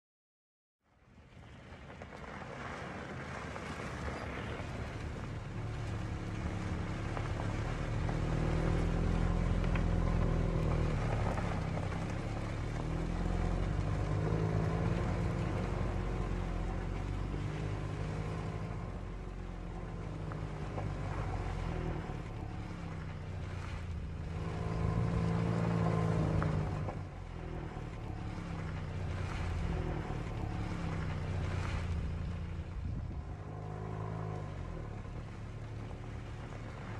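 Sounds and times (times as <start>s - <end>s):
wind across camera: 1.1s - 36.9s.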